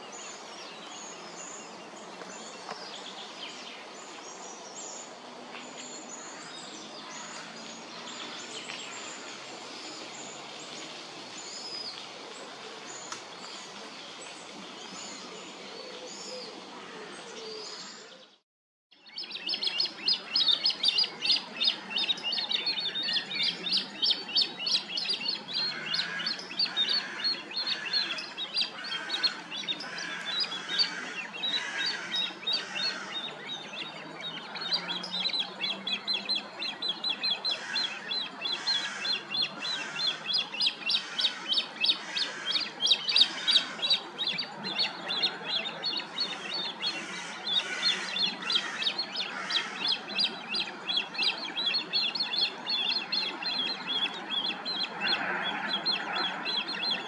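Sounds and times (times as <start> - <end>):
songbirds chirping and singing: 0.0 - 57.0.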